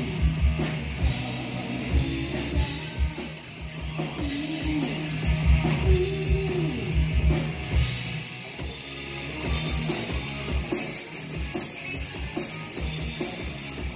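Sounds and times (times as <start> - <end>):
drum kit beat: 0.0 - 13.9
rock band playing live: 0.0 - 13.9.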